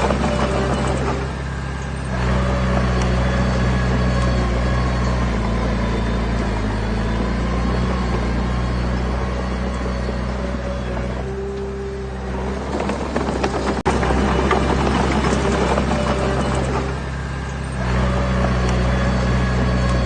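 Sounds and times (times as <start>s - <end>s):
heavy diesel engine drone: 0.0s - 20.0s.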